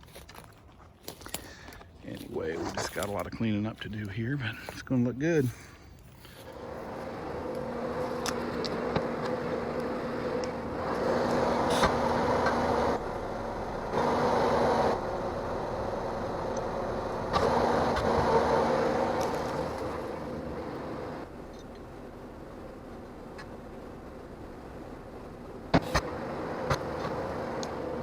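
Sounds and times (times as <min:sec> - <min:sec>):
diesel engine running: 0:01.1 - 0:28.0.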